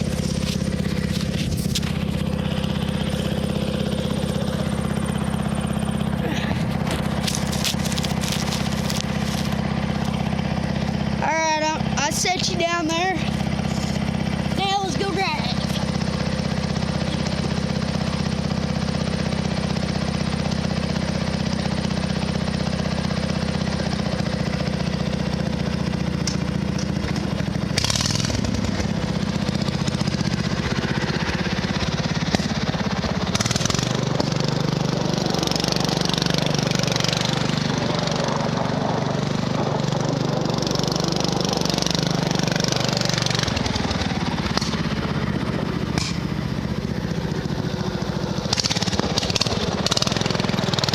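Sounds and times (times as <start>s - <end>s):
riding lawn mower engine: 0.0s - 50.9s.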